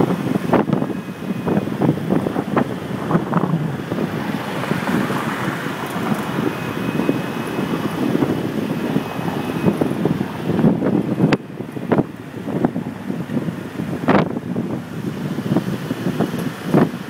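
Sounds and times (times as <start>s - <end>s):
road and traffic noise: 0.0s - 17.0s
wind buffeting microphone: 0.0s - 17.0s.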